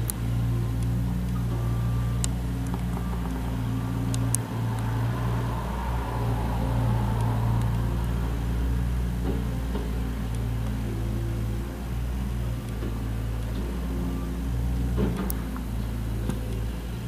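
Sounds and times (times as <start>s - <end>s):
loader engine running: 0.0s - 17.0s.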